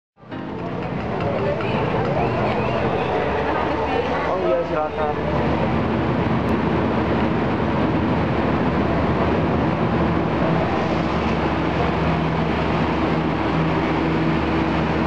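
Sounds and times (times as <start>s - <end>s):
diesel train engine rumbling: 0.2s - 15.0s.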